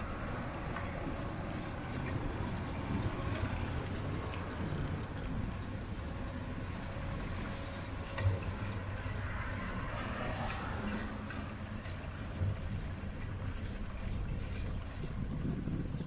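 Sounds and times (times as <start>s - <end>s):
road and wind rumble: 0.0s - 16.0s.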